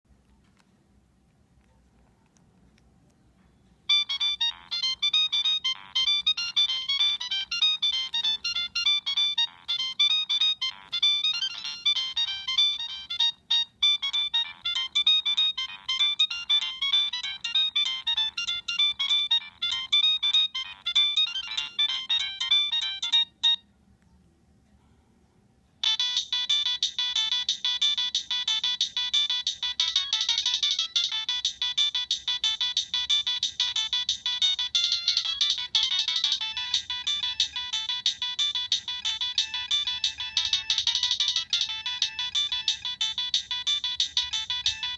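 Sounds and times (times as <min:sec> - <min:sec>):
mobile phone ringtone melody: 0:03.9 - 0:23.6, 0:25.8 - 0:44.9.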